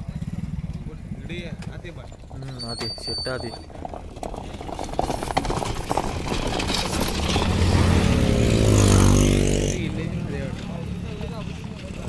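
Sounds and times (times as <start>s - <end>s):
motorcycle engine passing: 0.0s - 2.6s, 3.6s - 12.0s
bullock carts clattering: 1.4s - 12.0s.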